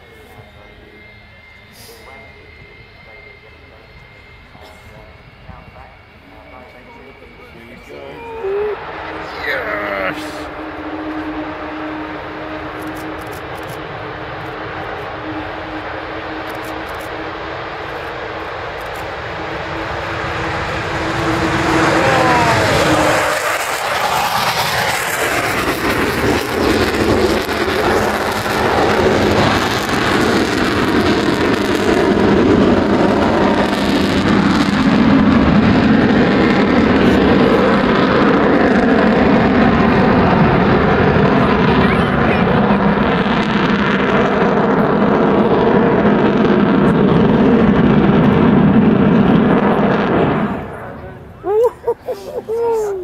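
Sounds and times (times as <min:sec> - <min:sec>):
loud jet roar: 0:00.0 - 0:53.0.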